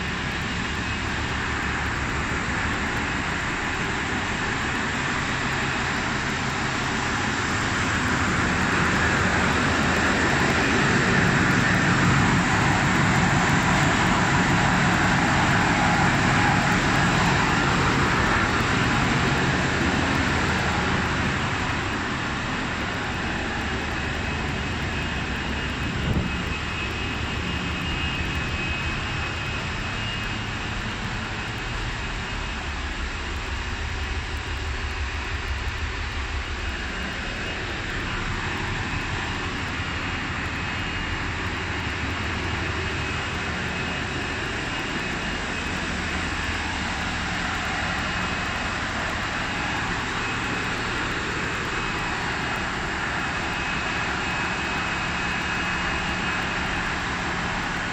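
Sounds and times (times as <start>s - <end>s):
engine room machinery drone: 0.0s - 57.9s.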